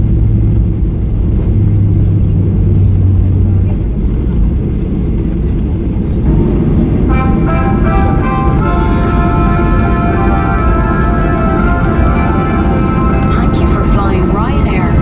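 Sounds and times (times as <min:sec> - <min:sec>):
airliner cabin engine rumble: 0:00.0 - 0:15.0
low hum: 0:00.0 - 0:15.0.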